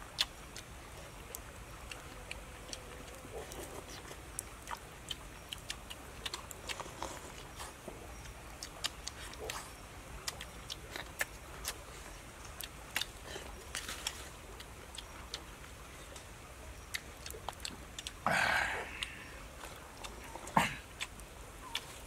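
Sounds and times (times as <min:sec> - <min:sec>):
wet chewing and lip-smacking: 0:00.0 - 0:18.2, 0:18.8 - 0:22.0.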